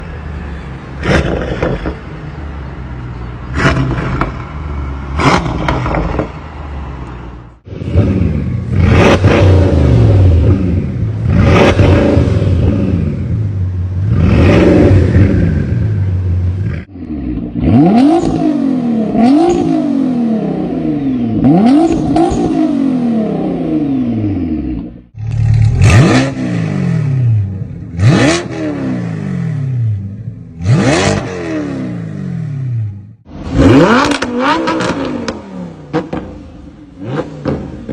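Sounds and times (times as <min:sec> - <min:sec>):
car engines revving: 0:00.0 - 0:37.9.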